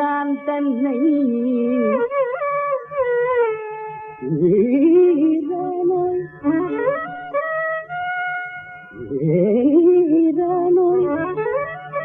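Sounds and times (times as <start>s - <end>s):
ornamented melodic line: 0.0s - 12.0s.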